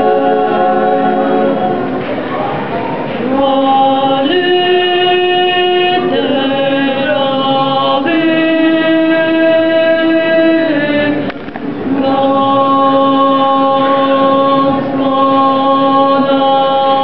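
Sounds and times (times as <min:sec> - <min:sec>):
women's choir singing a cappella: 0:00.0 - 0:17.0.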